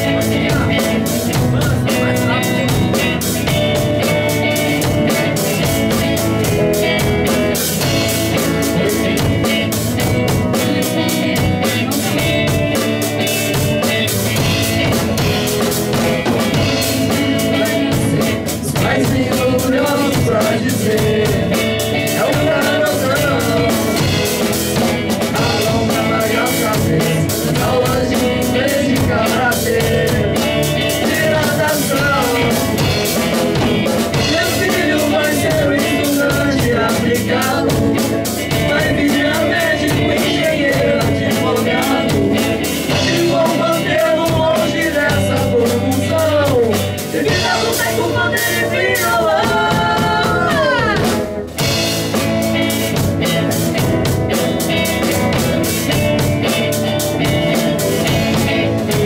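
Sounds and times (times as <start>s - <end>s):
person singing: 0.0s - 51.3s
rock band playing: 0.0s - 59.0s.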